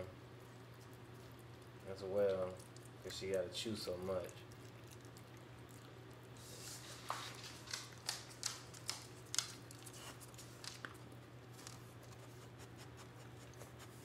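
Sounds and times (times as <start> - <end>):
low steady hum: 0.0 - 14.0
puppy crunching bone: 0.4 - 6.3, 6.9 - 12.3.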